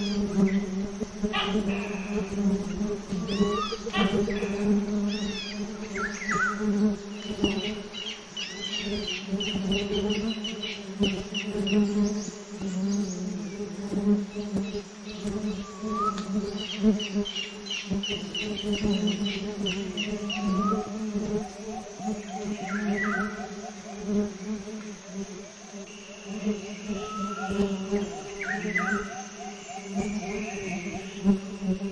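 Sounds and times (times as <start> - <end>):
small birds chirping: 0.0 - 31.9
wasps buzzing: 0.0 - 31.9.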